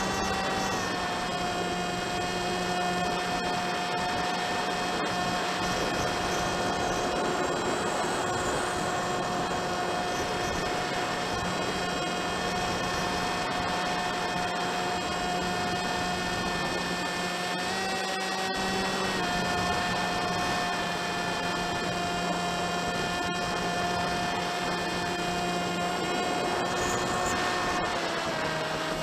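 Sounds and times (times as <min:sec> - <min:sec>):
model plane motor whining: 0:00.0 - 0:29.0.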